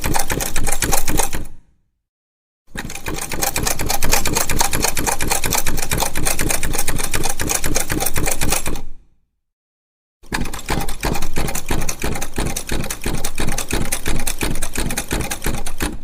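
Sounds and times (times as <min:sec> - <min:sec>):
sewing machine clatter: 0:00.0 - 0:01.6, 0:02.7 - 0:08.9, 0:10.2 - 0:16.0.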